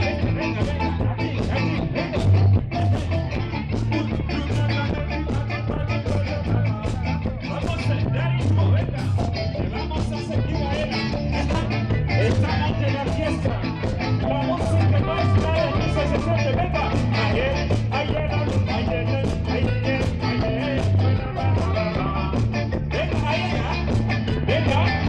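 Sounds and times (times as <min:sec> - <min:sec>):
bass guitar: 0:00.0 - 0:25.0
drums: 0:00.0 - 0:25.0
electric guitar: 0:00.0 - 0:25.0
lead singer singing: 0:00.0 - 0:25.0.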